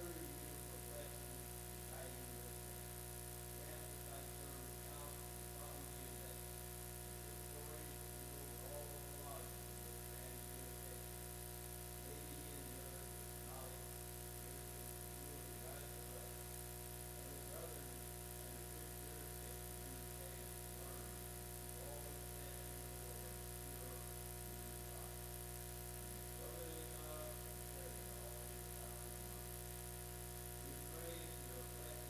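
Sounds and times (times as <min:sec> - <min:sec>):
electrical hum and buzz: 0:00.0 - 0:32.0.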